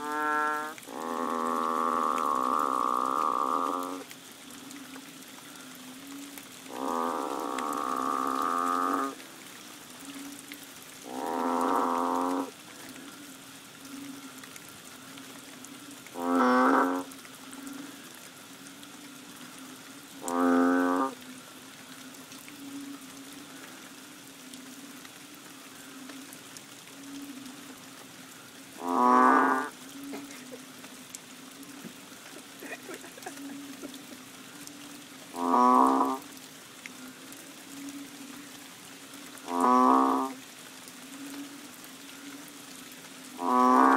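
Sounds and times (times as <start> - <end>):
frogs giving low mooing calls: 0.0 - 43.9.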